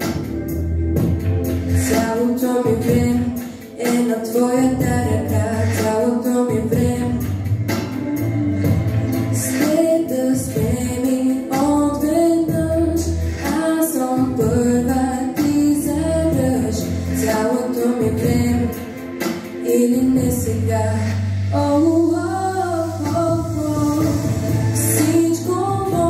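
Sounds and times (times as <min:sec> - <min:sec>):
pop backing track: 0:00.0 - 0:26.0
woman singing into microphone: 0:01.8 - 0:26.0.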